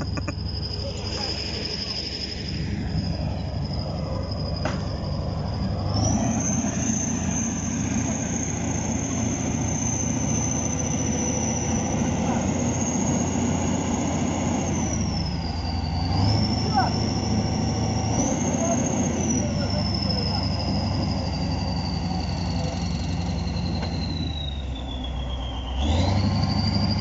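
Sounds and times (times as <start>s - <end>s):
diesel tractor engine revving: 0.0s - 27.0s.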